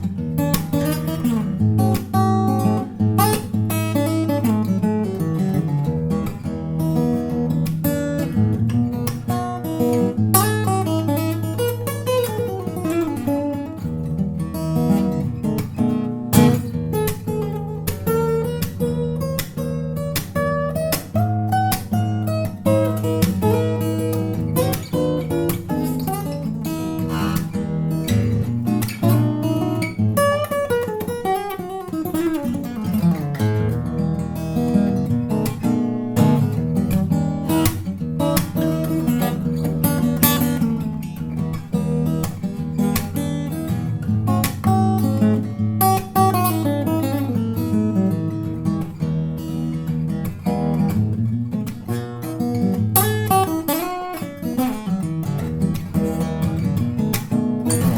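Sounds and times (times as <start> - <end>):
acoustic guitar chords: 0.0 - 57.9.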